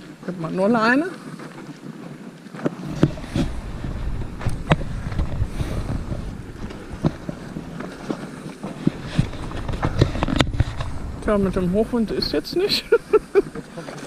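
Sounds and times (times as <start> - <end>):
footsteps on a path: 1.2 - 14.0
wind buffeting the microphone: 2.7 - 14.0.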